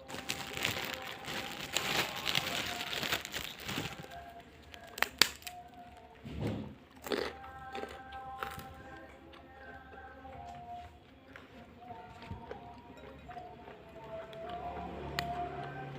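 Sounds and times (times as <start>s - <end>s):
crunchy chewing: 0.0s - 6.2s, 6.9s - 15.9s
faint background music: 0.0s - 15.9s.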